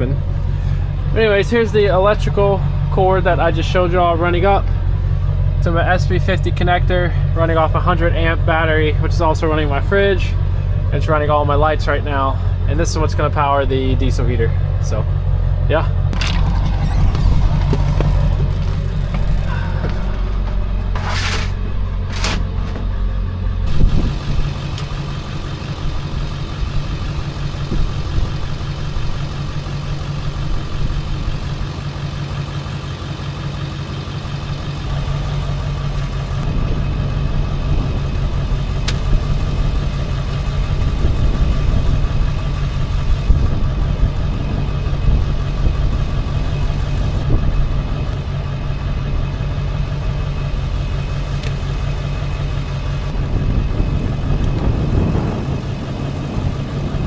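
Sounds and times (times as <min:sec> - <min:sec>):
steady engine hum: 0:00.0 - 0:57.0.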